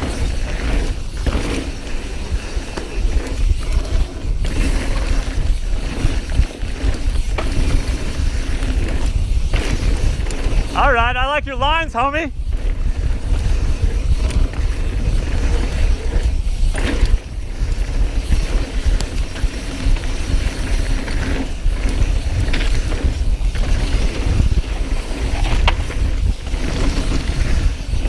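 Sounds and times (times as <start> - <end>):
bike clattering over bumps: 0.0 - 11.3, 12.0 - 28.0
bike tyres rolling on dirt: 0.0 - 28.0
wind buffeting microphone: 0.0 - 28.0.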